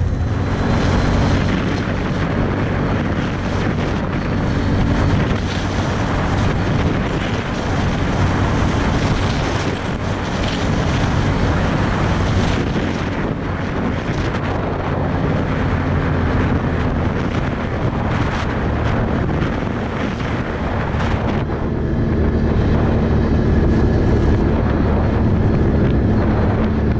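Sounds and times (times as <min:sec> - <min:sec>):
atv engine running: 0:00.0 - 0:26.9
wind buffeting microphone: 0:00.0 - 0:26.9.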